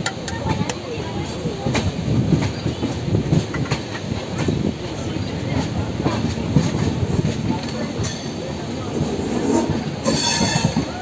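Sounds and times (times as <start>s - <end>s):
train wheels clattering over rail joints: 0.0s - 11.0s.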